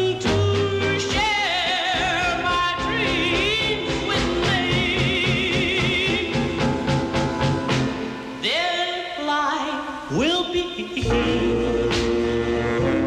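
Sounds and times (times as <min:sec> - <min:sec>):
vocal group singing: 0:00.0 - 0:06.8, 0:08.4 - 0:13.0.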